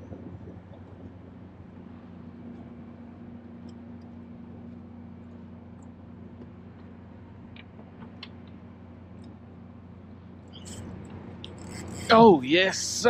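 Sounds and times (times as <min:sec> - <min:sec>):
motor humming: 0:00.0 - 0:12.3.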